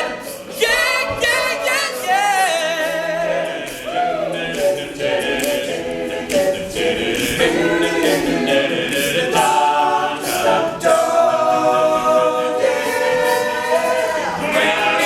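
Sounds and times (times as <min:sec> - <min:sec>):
male a cappella group singing: 0:00.0 - 0:15.0.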